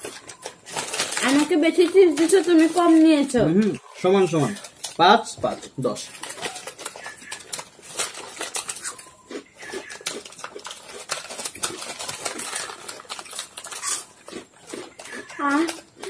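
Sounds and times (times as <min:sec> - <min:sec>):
crackers crunching: 0:00.0 - 0:16.0
plastic packets crinkling: 0:00.0 - 0:16.0.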